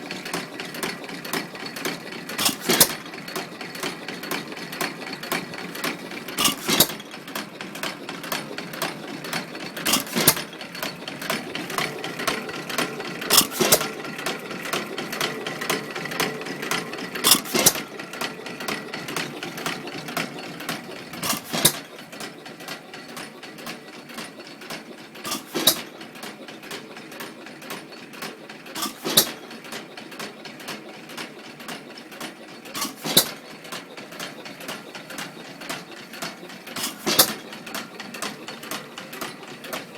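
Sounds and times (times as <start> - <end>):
engine firing stroke: 0.0 - 23.4, 25.2 - 26.0, 28.7 - 29.5, 32.1 - 39.9
mechanical clatter of crank and valves: 0.0 - 39.9.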